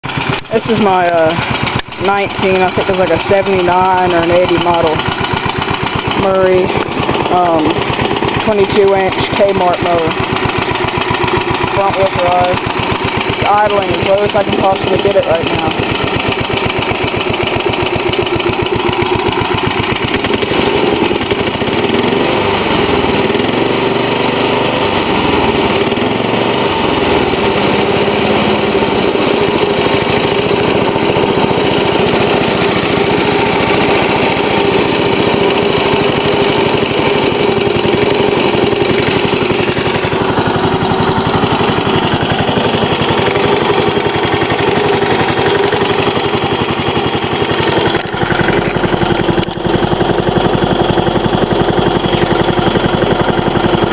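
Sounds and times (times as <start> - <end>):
lawn mower engine idling: 0.0 - 53.9.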